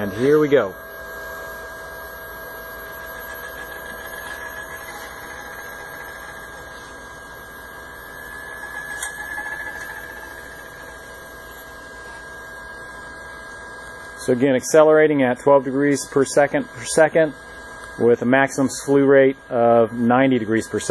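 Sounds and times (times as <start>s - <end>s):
motor whine and hum: 0.0s - 20.9s.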